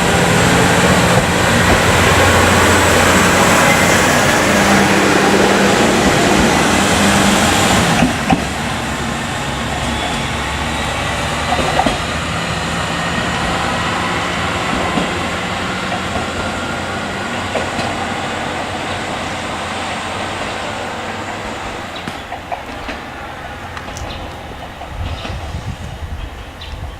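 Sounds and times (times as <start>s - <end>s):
diesel railcar engine: 0.0s - 26.9s
wheels rumbling on rail: 0.0s - 26.9s.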